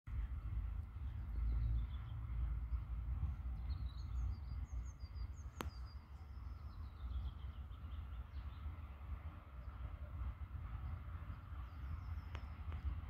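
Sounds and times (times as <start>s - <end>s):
birds chirping: 0.1s - 10.0s, 10.6s - 13.0s
steady low rumble: 0.1s - 13.0s.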